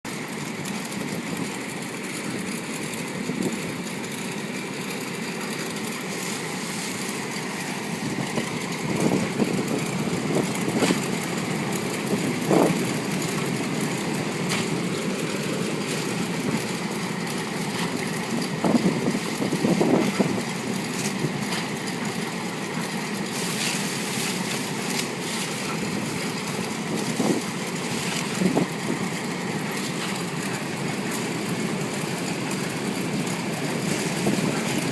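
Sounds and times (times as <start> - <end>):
washing machine running: 0.0 - 34.9.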